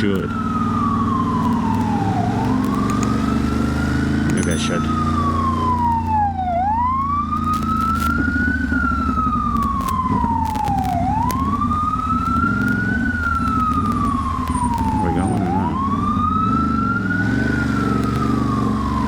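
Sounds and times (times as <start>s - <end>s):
ambulance siren wailing: 0.0s - 19.0s.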